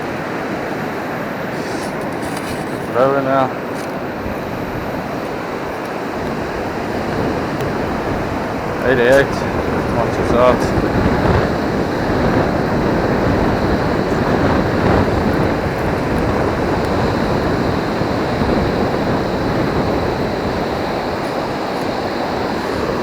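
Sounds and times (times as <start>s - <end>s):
surf breaking: 0.0s - 23.0s
wind buffeting microphone: 0.0s - 23.0s.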